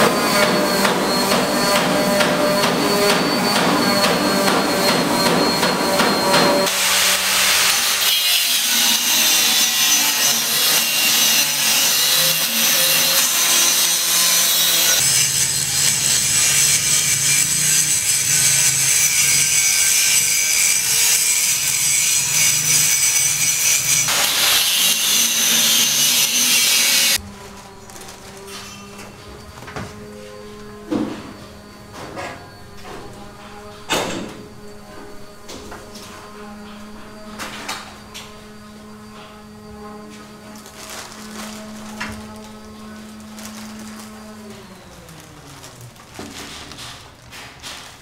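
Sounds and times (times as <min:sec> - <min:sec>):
loud construction tool: 0:00.0 - 0:47.9.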